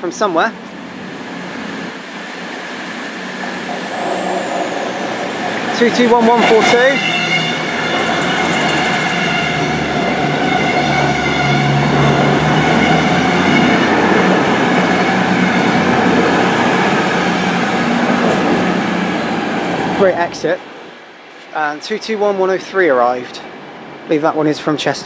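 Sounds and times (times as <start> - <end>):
diesel train engines droning: 0.0 - 21.8.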